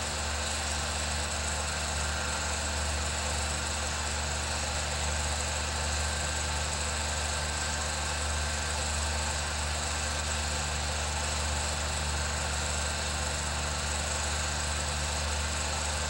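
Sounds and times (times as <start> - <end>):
film projector running: 0.0 - 16.0.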